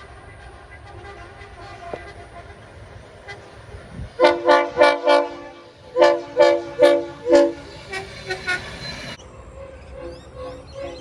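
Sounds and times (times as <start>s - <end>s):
locomotive air horn toots: 0.0s - 11.0s.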